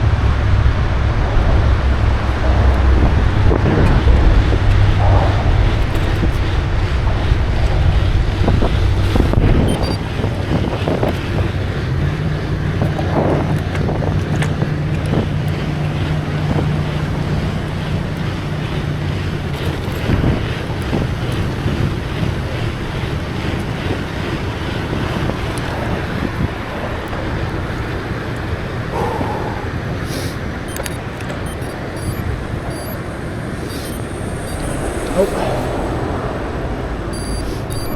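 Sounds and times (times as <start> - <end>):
low traffic engine hum: 0.0 - 37.9
wind buffeting microphone: 0.0 - 37.9.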